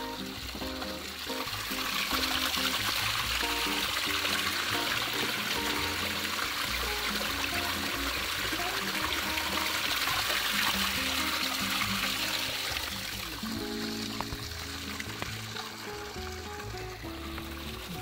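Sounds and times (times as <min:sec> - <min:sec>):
background music: 0:00.0 - 0:18.0
water filling plastic jug: 0:00.0 - 0:18.0
water trickling over rocks: 0:00.0 - 0:18.0.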